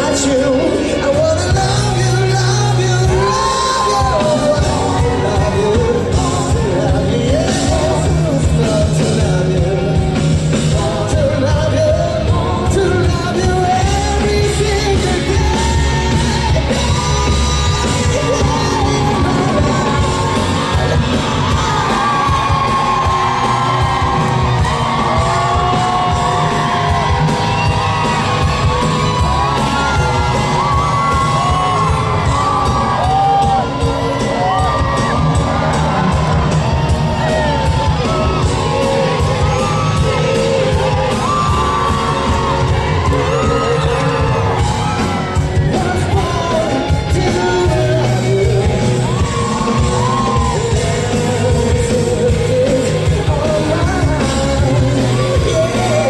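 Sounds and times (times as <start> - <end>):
man singing: 0.0 - 36.5, 37.2 - 56.0
audience yelling and whooping: 0.0 - 56.0
pop-rock band playing: 0.0 - 56.0.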